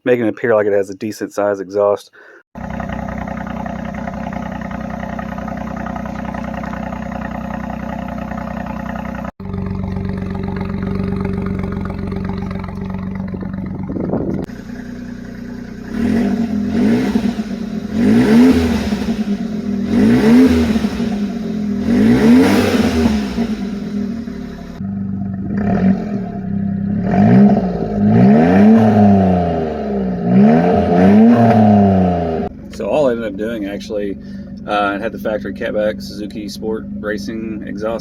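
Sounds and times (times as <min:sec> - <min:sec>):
car engine idling and revving: 0:02.6 - 0:38.0.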